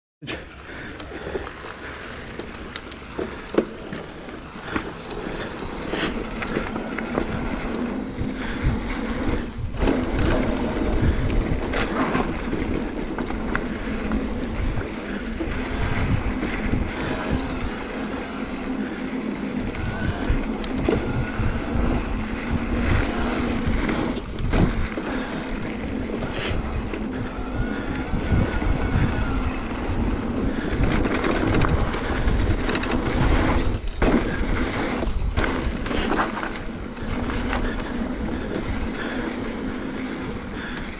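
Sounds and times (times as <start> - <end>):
bike rattling: 0.2 - 40.9
tyres on loose dirt: 0.2 - 40.9
wind rumbling on camera: 0.4 - 40.9.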